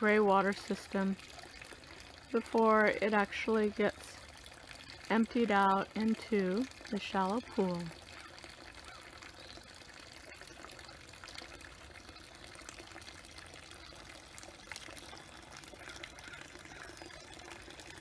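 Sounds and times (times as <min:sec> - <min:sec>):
water trickling into pond: 0:00.0 - 0:18.0.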